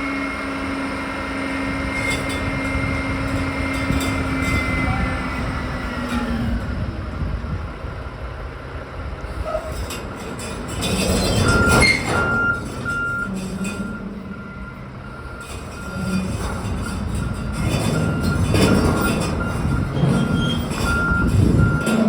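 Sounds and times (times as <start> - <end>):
truck backup alarm beeping: 0.0 - 8.3, 10.6 - 22.0
truck engine running: 0.0 - 22.0.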